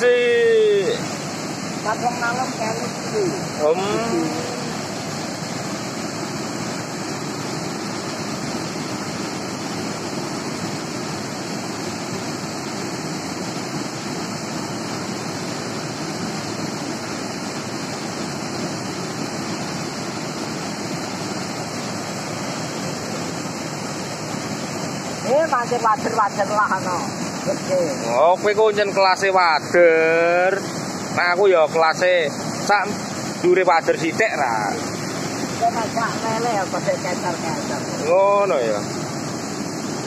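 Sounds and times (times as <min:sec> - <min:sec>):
river rushing over weir: 0:00.0 - 0:40.0.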